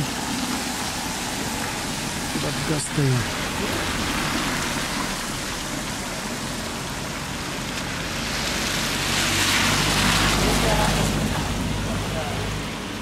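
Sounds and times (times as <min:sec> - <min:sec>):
water splashing into stone basin: 0:00.0 - 0:13.0.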